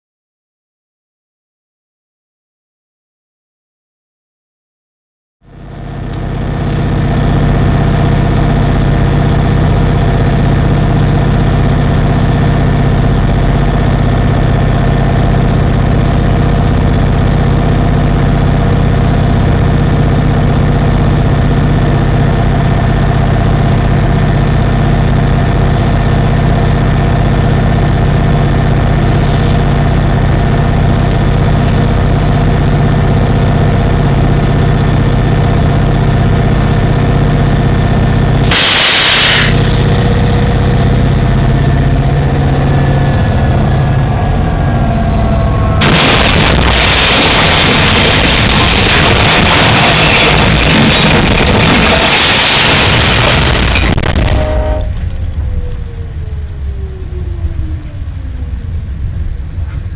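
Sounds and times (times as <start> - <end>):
diesel locomotive engine drone: 5.4 - 59.9.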